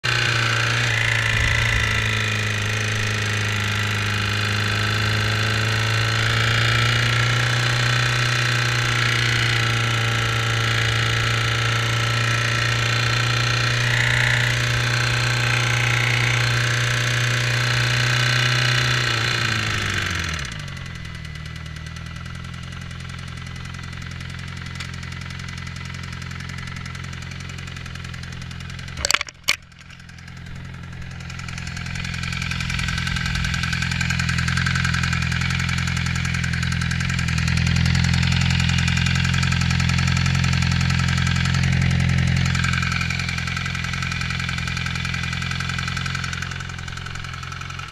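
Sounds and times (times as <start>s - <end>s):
engine ticking: 0.0s - 47.9s
motorcycle engine running: 0.0s - 47.9s.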